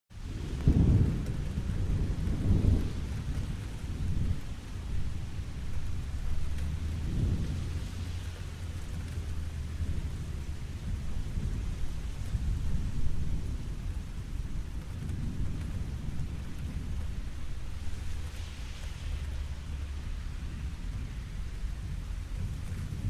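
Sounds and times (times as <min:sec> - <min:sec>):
rain falling: 0:00.1 - 0:23.0
thunder rumbling: 0:00.2 - 0:23.0.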